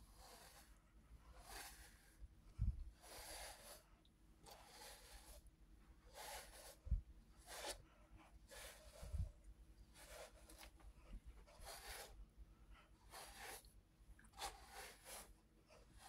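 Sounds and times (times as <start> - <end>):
brush stroking through fur: 0.0 - 16.0.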